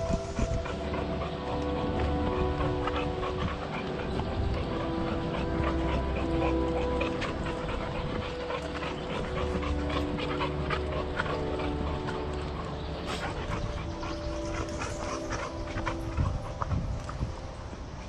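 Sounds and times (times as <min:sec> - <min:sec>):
dog panting: 0:00.0 - 0:18.0
soft background music: 0:00.0 - 0:18.0.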